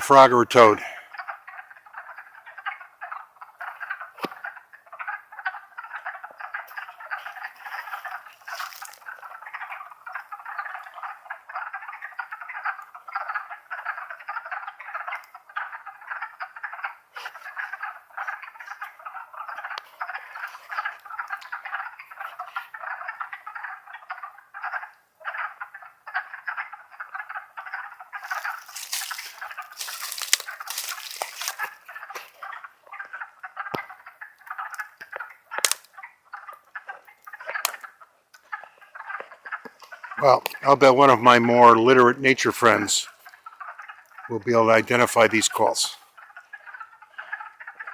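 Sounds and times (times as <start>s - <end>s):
chorus of frogs calling: 0.0s - 47.9s.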